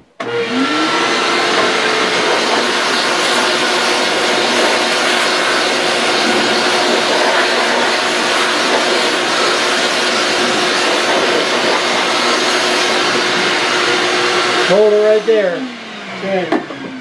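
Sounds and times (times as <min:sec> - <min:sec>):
shop vacuum running: 0:00.0 - 0:17.0.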